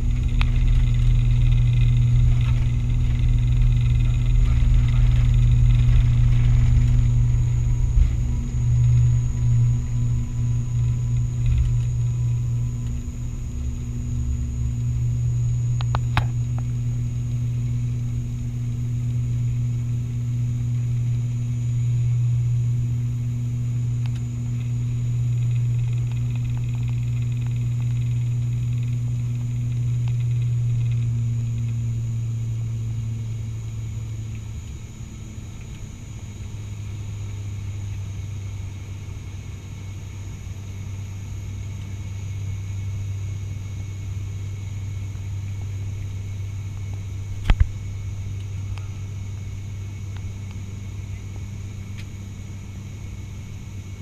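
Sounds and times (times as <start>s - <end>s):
propeller engine drone: 0.0s - 54.0s.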